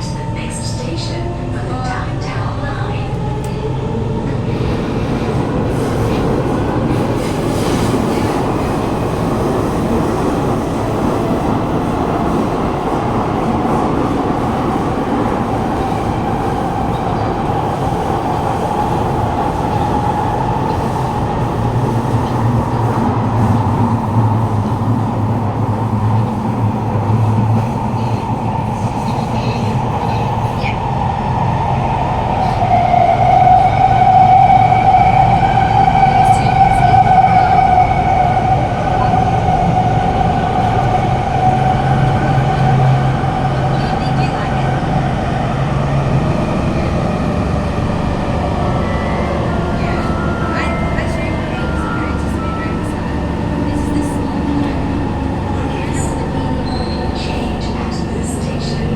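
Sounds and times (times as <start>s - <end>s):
train wheels on rail: 0.5s - 58.9s.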